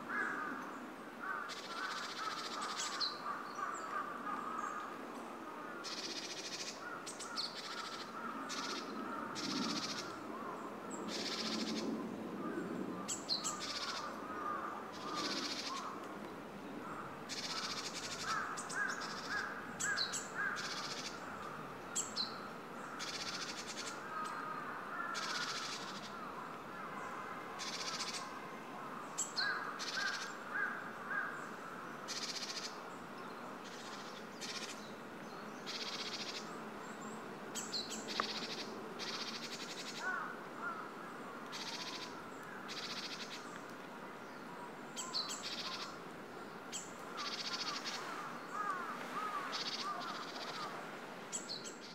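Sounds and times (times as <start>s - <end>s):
wild birds calling: 0.0s - 51.9s.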